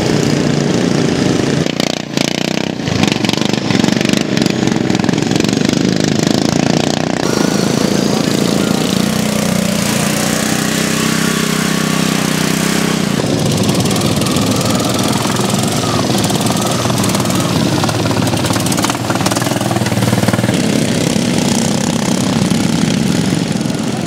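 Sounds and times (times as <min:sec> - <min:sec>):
lawn mower engines running loud: 0:00.0 - 0:24.0.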